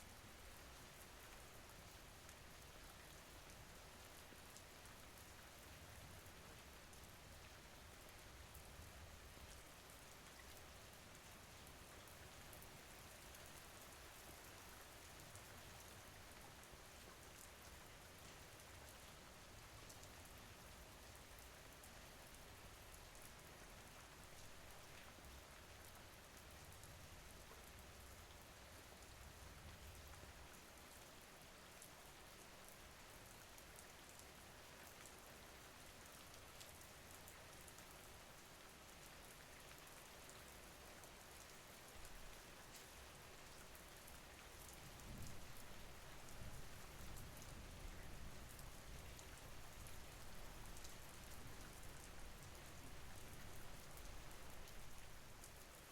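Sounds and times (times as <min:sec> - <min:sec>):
faint rain hiss: 0:00.0 - 0:55.9.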